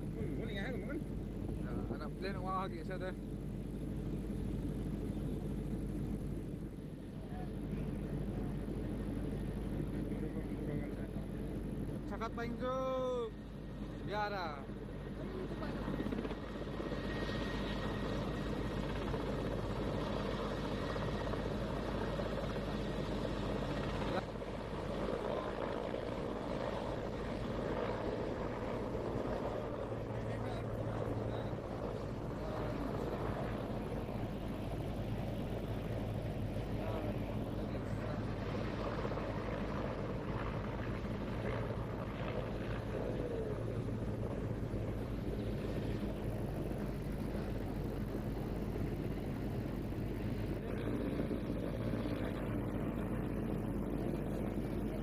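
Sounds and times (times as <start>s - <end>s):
helicopter rotors droning: 0.0s - 55.0s.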